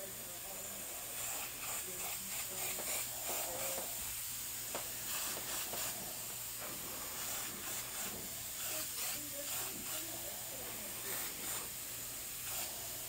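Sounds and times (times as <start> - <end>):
airbrush hissing: 0.0 - 13.0.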